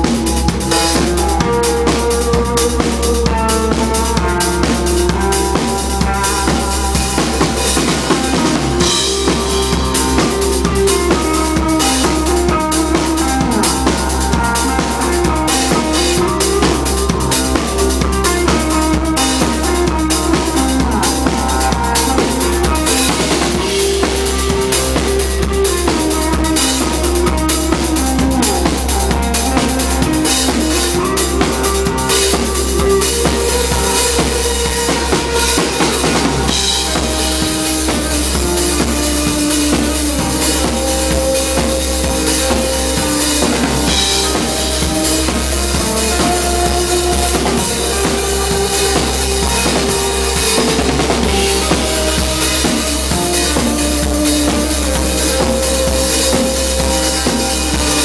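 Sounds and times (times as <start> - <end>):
drum kit with cymbals: 0.0 - 58.0
electric guitar: 0.0 - 58.0
live rock band: 0.0 - 58.0.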